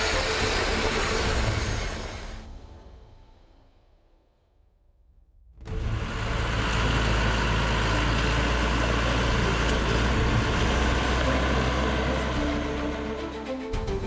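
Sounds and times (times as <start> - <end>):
truck engine droning: 0.0 - 3.7, 5.6 - 14.0.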